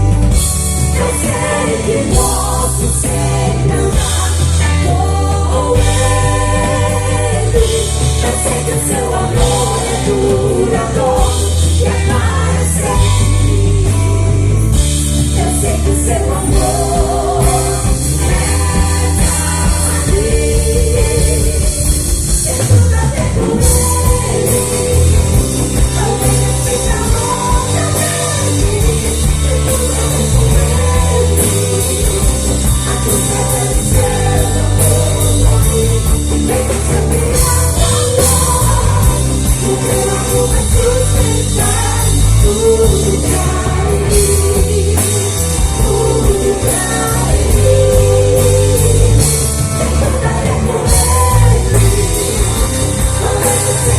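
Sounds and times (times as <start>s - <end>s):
rock band playing: 0.0s - 53.9s
person singing: 0.8s - 53.9s.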